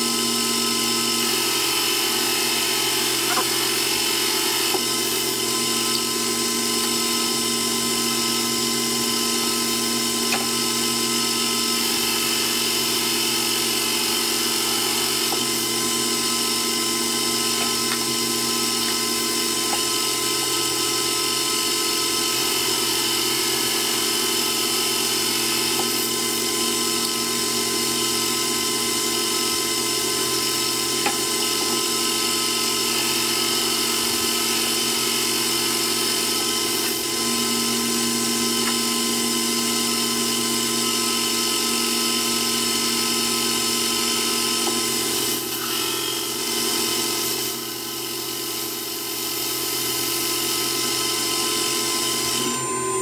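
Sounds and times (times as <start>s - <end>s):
metal lathe whining: 0.0s - 53.0s.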